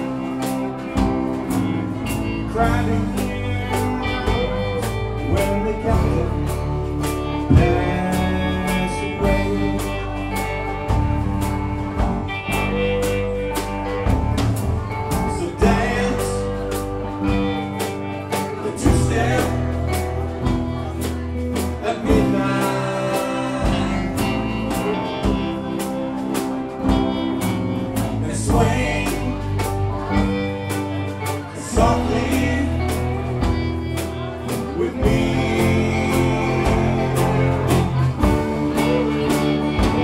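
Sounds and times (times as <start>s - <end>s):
bass guitar: 0.0s - 40.0s
drum kit: 0.0s - 40.0s
electric guitars: 0.0s - 40.0s
harmony vocal: 0.0s - 40.0s
lead vocal: 0.0s - 40.0s
strummed acoustic guitar: 0.0s - 40.0s.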